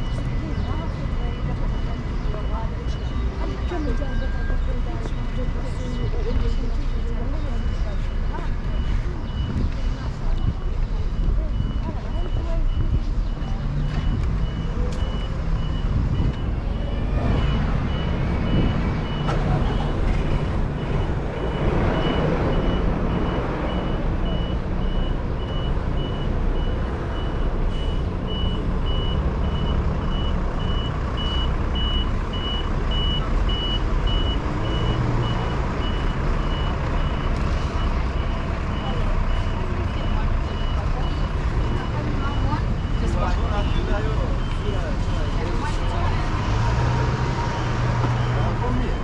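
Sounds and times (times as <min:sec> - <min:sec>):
large vehicle engine rumble: 0:00.0 - 0:49.0
reversing alarm beeping: 0:00.0 - 0:49.0
street traffic: 0:00.0 - 0:49.0.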